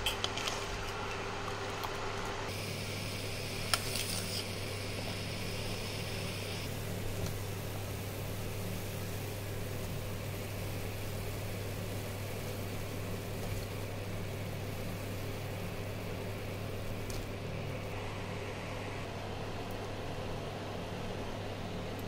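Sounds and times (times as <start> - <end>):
induction cooktop hum: 0.0 - 22.0
syrup boiling and bubbling: 0.2 - 22.0.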